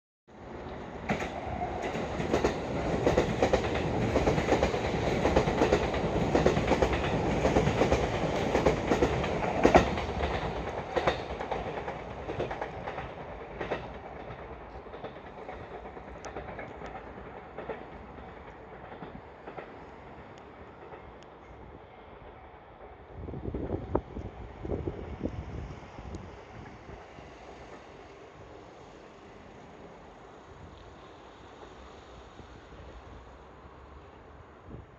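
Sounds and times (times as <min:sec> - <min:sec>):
electric train passing: 0:00.3 - 0:34.9.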